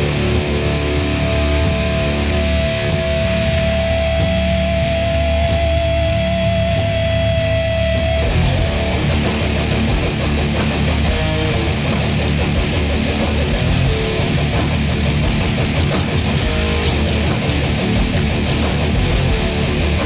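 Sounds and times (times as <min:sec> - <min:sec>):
bass guitar: 0:00.0 - 0:20.0
distorted electric guitars: 0:00.0 - 0:20.0
drums with cymbals: 0:01.6 - 0:20.0.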